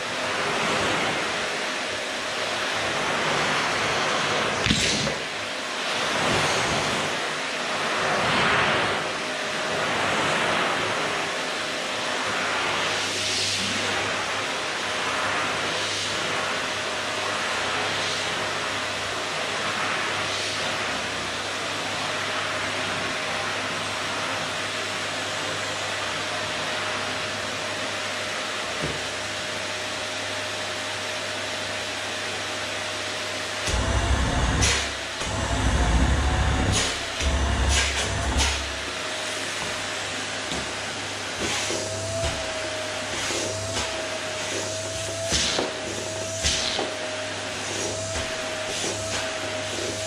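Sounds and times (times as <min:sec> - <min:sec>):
vacuum cleaner motor whine: 0:00.0 - 0:50.0.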